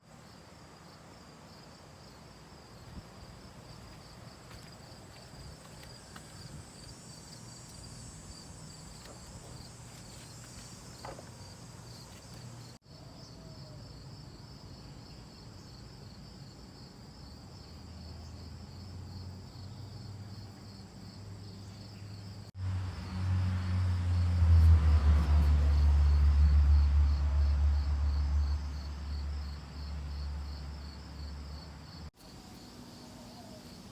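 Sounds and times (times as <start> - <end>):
insects trilling: 0.2 - 16.2, 16.8 - 33.9.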